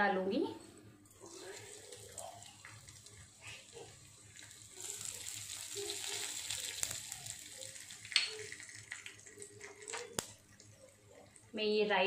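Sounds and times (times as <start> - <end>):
seeds sizzling in hot oil: 1.1 - 12.0.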